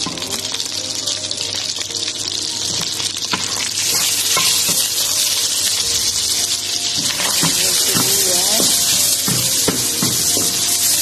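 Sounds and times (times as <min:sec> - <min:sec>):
butter sizzling in a wok: 0:00.0 - 0:11.0.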